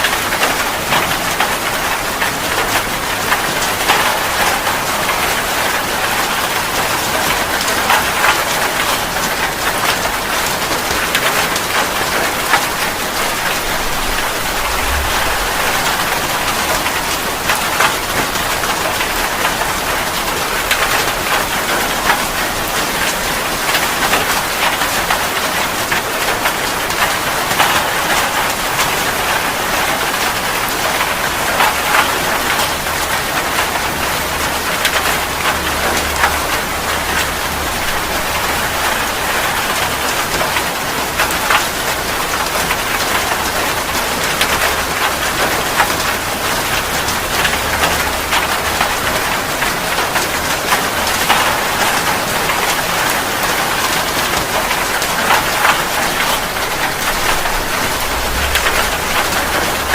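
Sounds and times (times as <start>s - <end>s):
heavy rain falling: 0.0s - 59.9s
raindrops hitting a surface: 0.0s - 59.9s.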